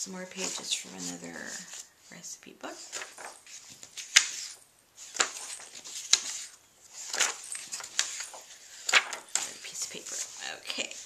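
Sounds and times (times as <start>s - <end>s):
paper rustling: 0.2s - 2.0s, 2.7s - 11.0s.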